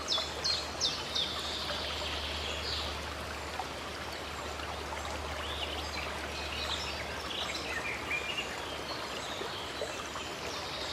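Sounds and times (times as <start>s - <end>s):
stream water rushing: 0.0s - 10.9s.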